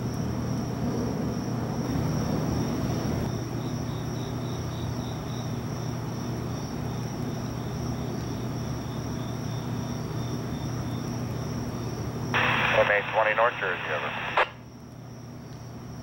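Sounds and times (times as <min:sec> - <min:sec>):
insects trilling in chorus: 0:00.0 - 0:16.0.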